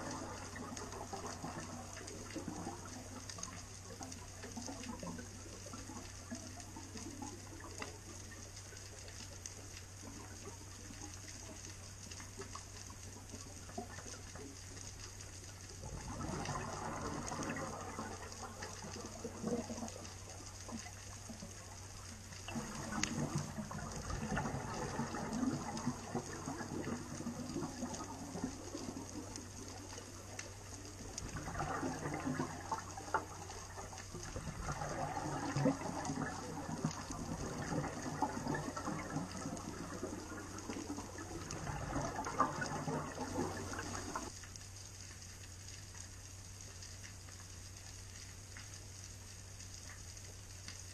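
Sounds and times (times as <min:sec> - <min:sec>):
low steady hum: 0:00.0 - 0:50.9
regulator bubbles gurgling underwater: 0:00.0 - 0:50.9.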